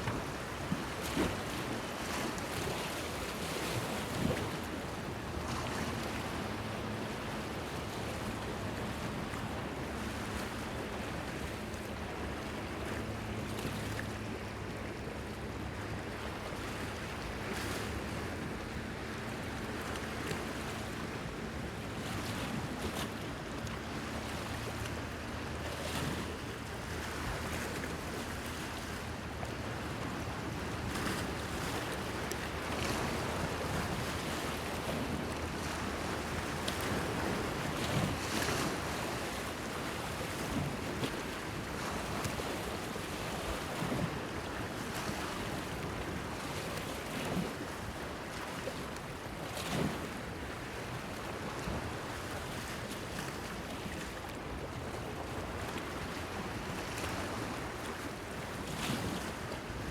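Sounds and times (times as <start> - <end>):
wind: 0.0 - 59.9.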